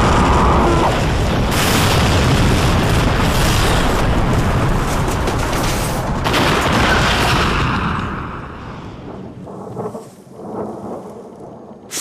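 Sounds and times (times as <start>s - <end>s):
loud rumbling explosion: 0.0s - 10.6s.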